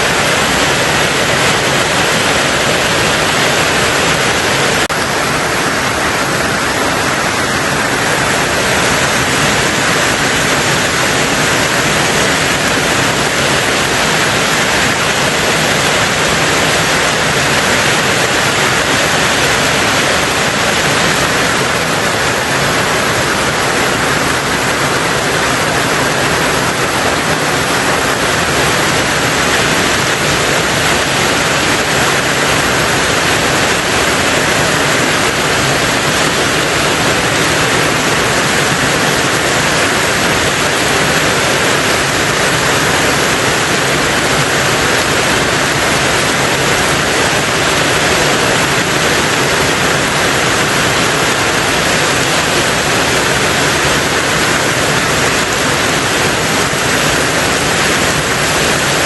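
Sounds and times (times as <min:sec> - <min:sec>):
heavy rain on tin roof: 0:00.0 - 0:59.0.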